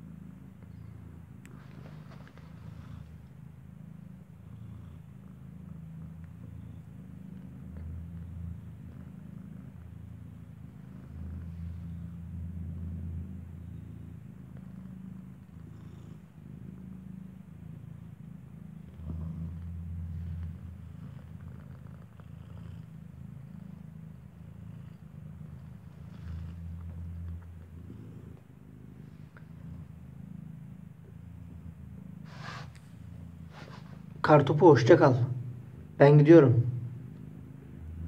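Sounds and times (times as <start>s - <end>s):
cat purring: 0.0s - 38.0s.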